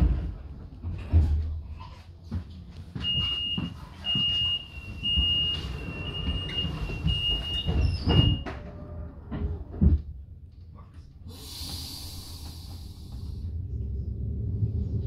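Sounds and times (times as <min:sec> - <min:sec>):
low rumble of train: 0:00.0 - 0:15.0.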